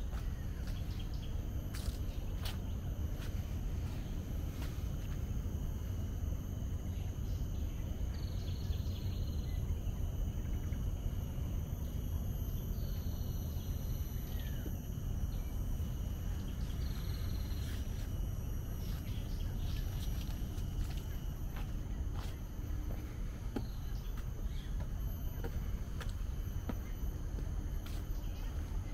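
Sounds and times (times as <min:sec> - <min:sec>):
insects droning: 0:00.0 - 0:28.9
steady low rumble: 0:00.0 - 0:28.9.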